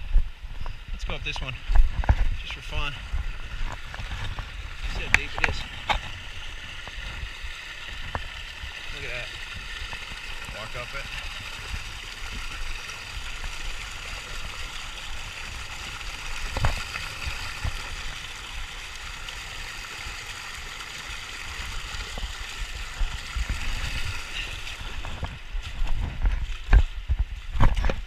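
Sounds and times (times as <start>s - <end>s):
waterfall rushing and splashing: 3.0s - 25.9s.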